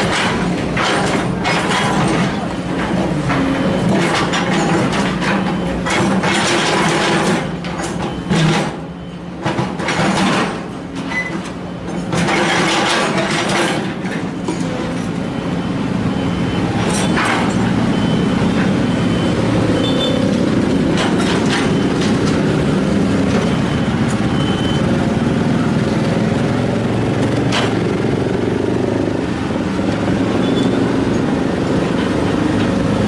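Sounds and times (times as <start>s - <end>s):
excavator diesel engine under load: 0.0s - 33.0s.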